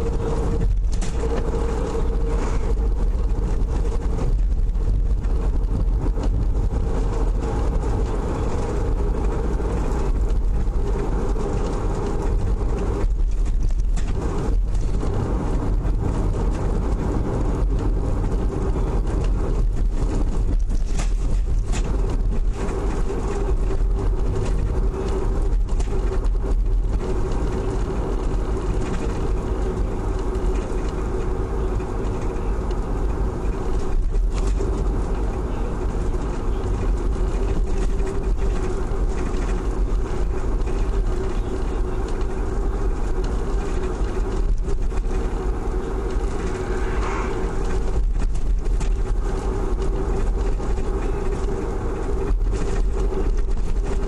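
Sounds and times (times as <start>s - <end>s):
car engine and tyre rumble: 0.0s - 54.0s
constant hum: 0.0s - 54.0s.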